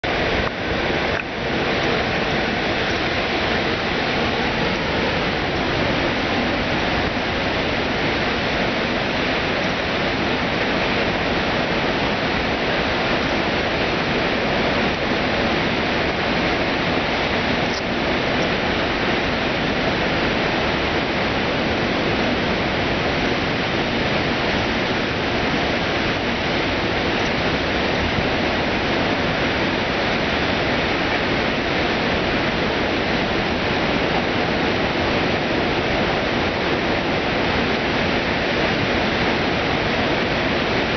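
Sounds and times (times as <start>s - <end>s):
water pouring over dam: 0.0s - 40.9s.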